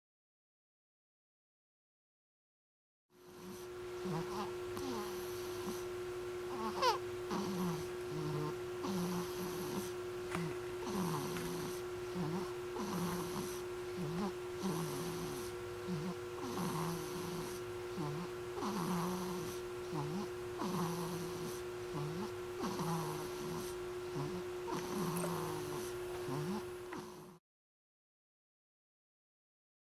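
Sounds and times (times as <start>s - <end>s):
baby snoring: 3.2s - 27.4s
faint steady hum: 3.2s - 27.4s.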